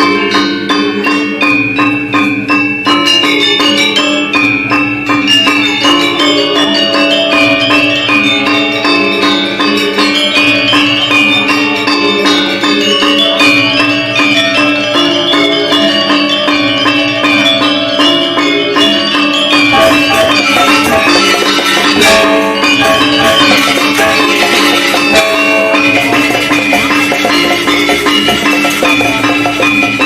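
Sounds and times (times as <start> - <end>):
gamelan ensemble playing: 0.0 - 30.0.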